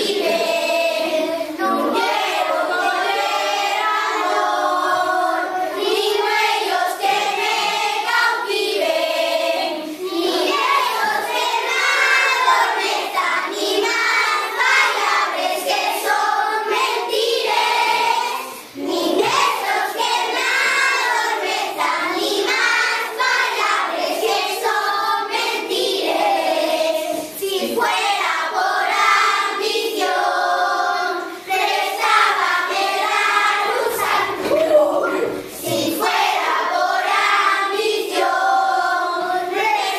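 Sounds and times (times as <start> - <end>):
children singing in unison: 0.0 - 39.9.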